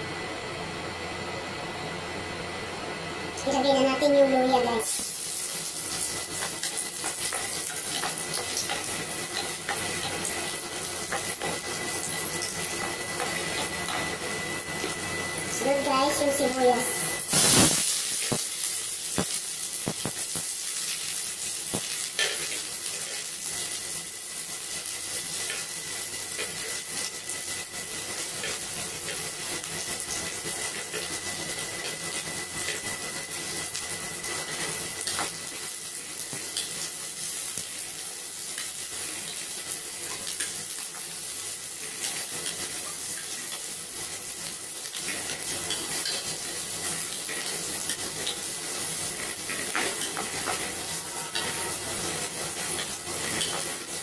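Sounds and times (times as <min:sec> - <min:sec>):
onions sizzling in hot oil: 0:03.5 - 0:54.0.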